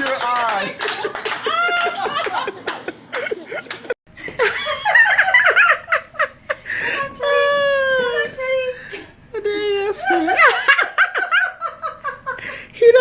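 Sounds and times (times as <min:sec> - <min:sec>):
people laughing: 0:00.3 - 0:08.2, 0:10.0 - 0:12.5.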